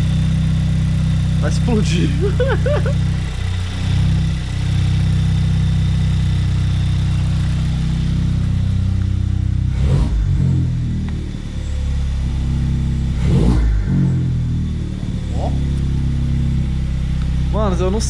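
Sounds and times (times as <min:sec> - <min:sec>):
car engine at raised idle: 0:00.0 - 0:18.0.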